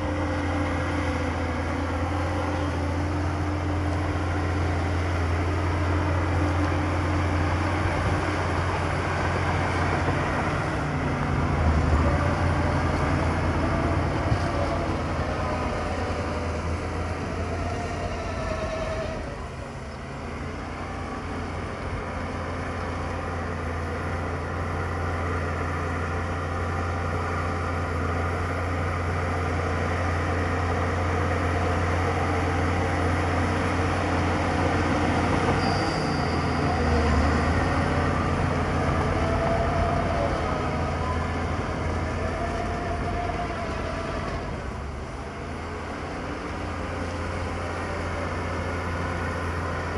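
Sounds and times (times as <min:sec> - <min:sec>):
heavy diesel machinery engine drone: 0:00.0 - 0:49.9.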